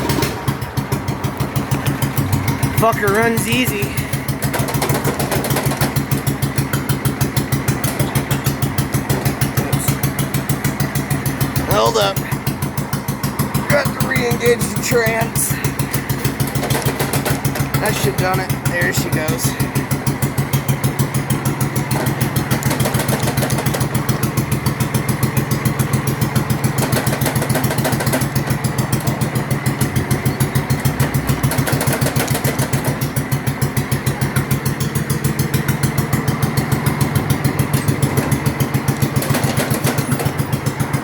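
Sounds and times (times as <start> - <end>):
small mower engine running: 0.0 - 41.0.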